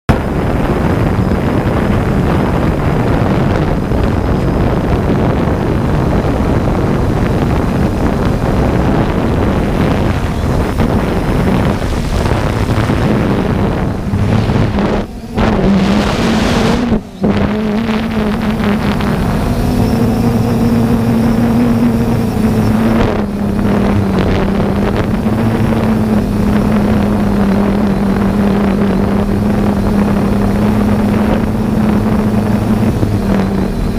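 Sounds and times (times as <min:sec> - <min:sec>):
drone propellers whirring: 0:00.1 - 0:33.9.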